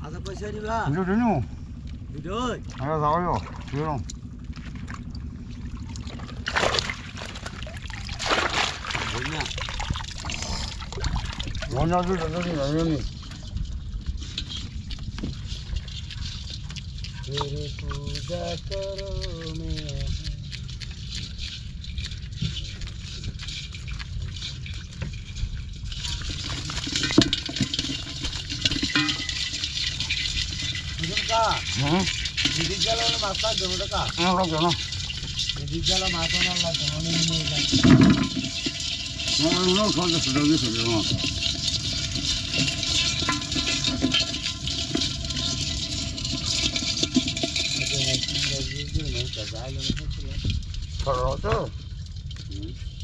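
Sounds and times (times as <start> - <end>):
water trickling and dripping: 2.6 - 53.0
crabs and fish tumbling into basin: 2.8 - 53.0.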